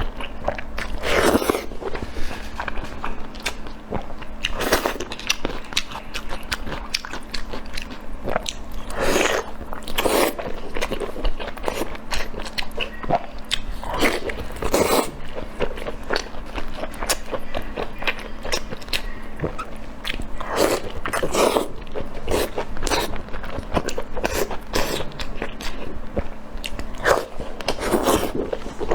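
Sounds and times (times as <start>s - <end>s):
person chewing crunchy food: 0.0s - 28.9s.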